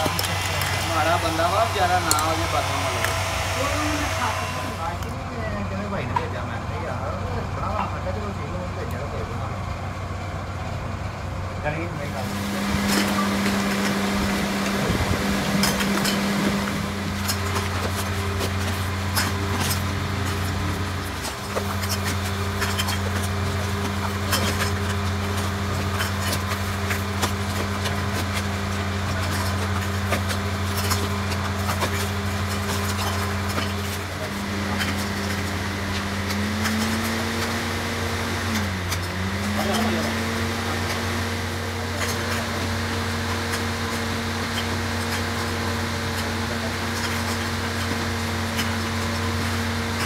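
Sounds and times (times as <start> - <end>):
electric machine hum: 0.0 - 6.0, 11.8 - 50.0.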